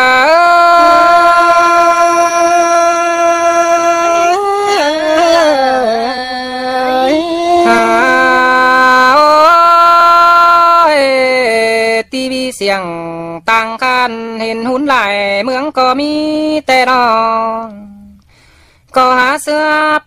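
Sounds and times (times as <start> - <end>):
person singing folk song: 0.0 - 20.0.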